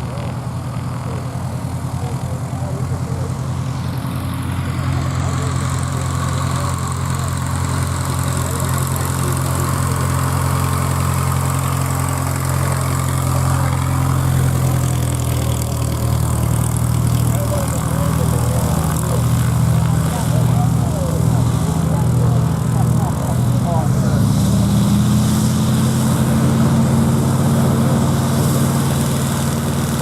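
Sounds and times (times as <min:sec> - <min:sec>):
light aircraft engine and propeller: 0:00.0 - 0:30.0.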